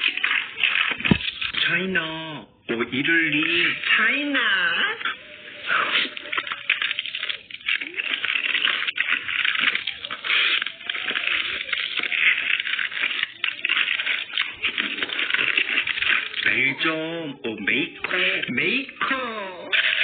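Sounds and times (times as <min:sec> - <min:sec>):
chewing and crunching food: 0:00.0 - 0:01.9, 0:05.0 - 0:17.0, 0:17.8 - 0:20.0.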